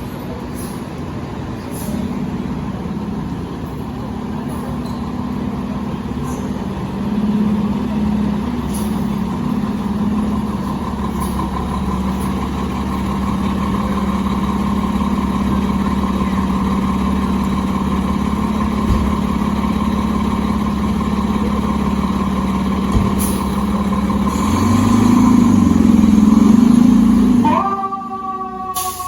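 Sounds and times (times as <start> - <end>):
fire engine engine running: 0.0 - 29.0.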